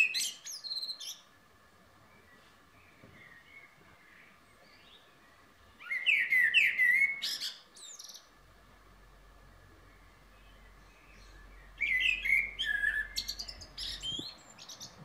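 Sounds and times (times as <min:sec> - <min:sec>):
blackbird singing: 0:00.0 - 0:01.3, 0:02.1 - 0:08.4, 0:09.5 - 0:15.0.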